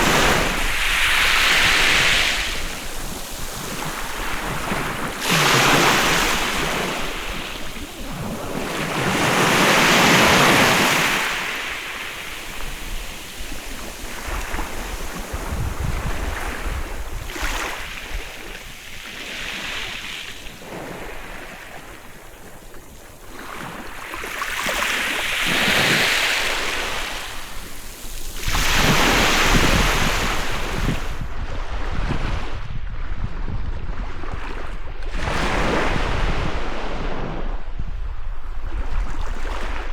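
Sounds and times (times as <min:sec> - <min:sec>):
sea waves breaking on beach: 0:00.0 - 0:37.8.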